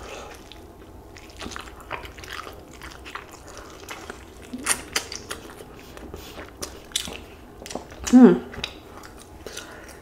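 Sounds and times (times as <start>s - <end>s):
chewing and wet mouth sounds: 0.0s - 10.0s.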